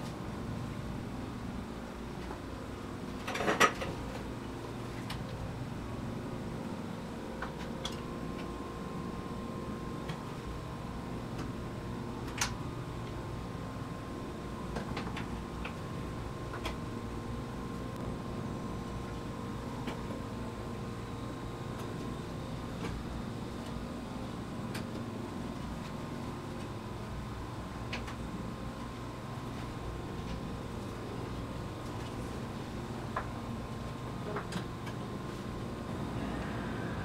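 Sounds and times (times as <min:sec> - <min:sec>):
steady workshop hum: 0:00.0 - 0:37.0.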